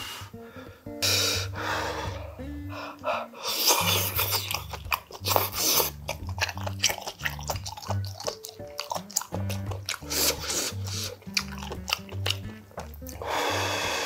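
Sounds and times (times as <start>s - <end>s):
music with pulsing bass: 0.0s - 3.2s, 3.8s - 14.0s
man slurping and chewing: 1.0s - 14.0s.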